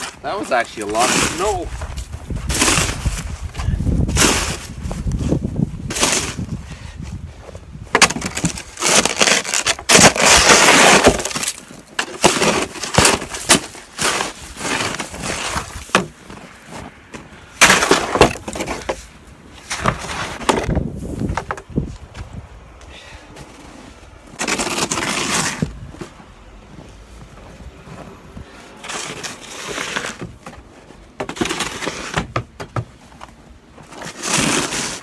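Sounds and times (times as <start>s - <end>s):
scraping on snow: 0.0s - 7.6s, 8.5s - 21.3s, 23.3s - 32.2s, 33.8s - 35.0s
crunching of packed snow: 0.0s - 32.2s, 33.0s - 35.0s.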